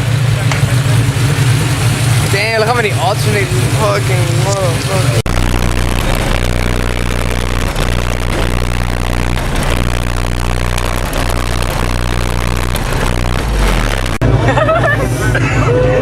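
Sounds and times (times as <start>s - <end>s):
constant rush of noise: 0.0s - 16.0s
vehicle engine deep drone: 0.0s - 16.0s.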